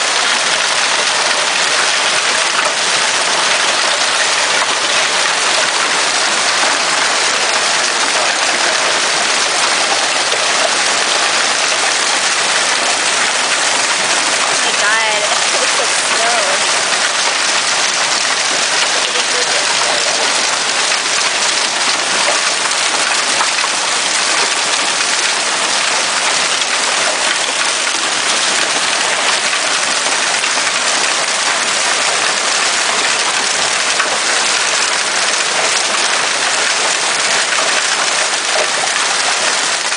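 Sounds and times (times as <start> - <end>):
hail and heavy rain falling: 0.0 - 39.9.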